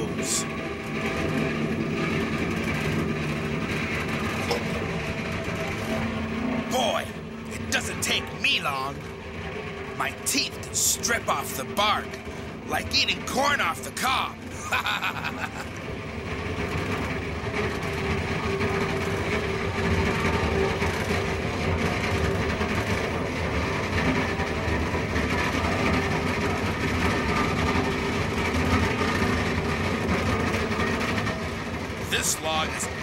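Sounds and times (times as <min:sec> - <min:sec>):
log debarker machine running: 0:00.0 - 0:33.0
machine hum tones: 0:00.0 - 0:33.0.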